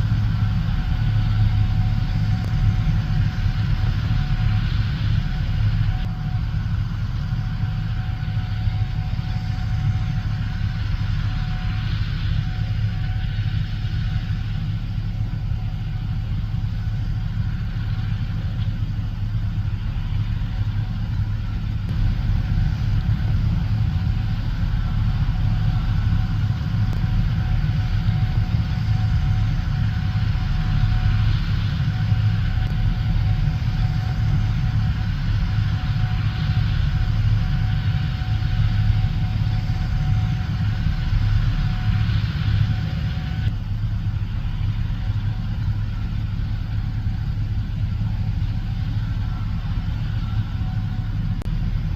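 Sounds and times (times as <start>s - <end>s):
faint steady whine: 0.0s - 51.9s
low diesel engine drone: 0.0s - 51.9s.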